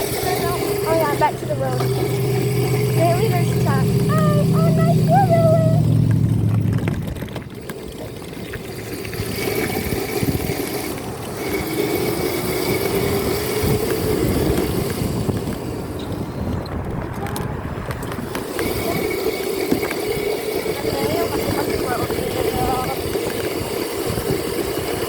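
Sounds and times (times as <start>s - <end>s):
dirt bike engine running: 0.0s - 25.0s
wind and road noise: 0.0s - 25.0s.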